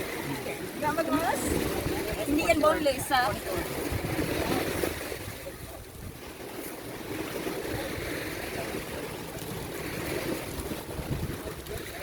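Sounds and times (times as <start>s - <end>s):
surf washing onto beach: 0.0s - 12.0s
wind rumbling on microphone: 0.0s - 12.0s.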